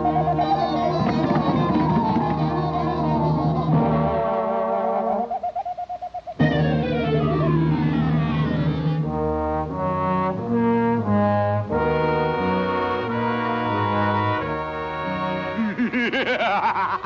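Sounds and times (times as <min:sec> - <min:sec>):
brass-led orchestral music: 0:00.0 - 0:05.3, 0:06.6 - 0:15.6.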